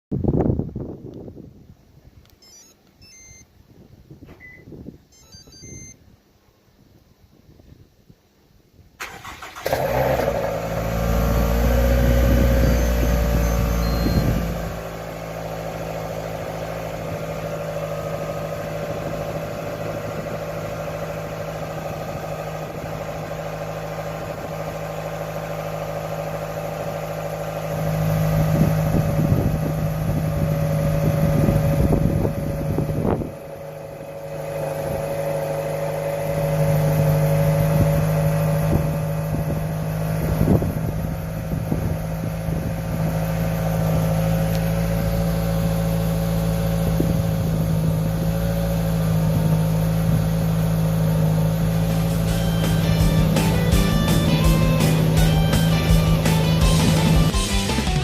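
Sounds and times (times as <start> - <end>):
car engine idling: 9.0 - 58.0.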